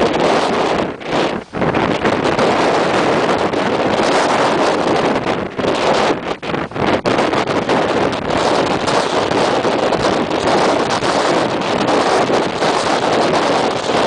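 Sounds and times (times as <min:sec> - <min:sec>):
storm wind rushing: 0:00.0 - 0:14.0.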